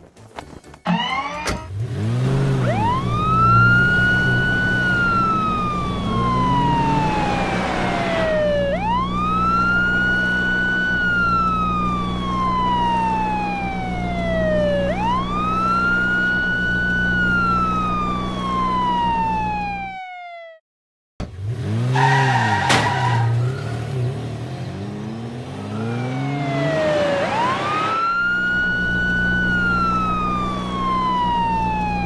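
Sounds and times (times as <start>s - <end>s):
police siren wailing: 0.8s - 20.6s, 25.5s - 32.0s.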